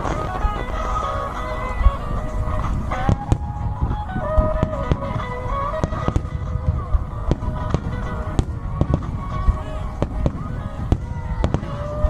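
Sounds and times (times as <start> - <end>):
fireworks bangs and crackles: 0.0 - 12.0
music with held melody notes: 0.0 - 12.0.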